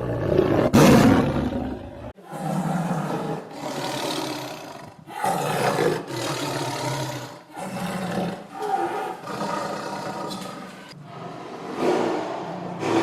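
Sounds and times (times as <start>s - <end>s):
tiger roaring: 0.0s - 13.0s.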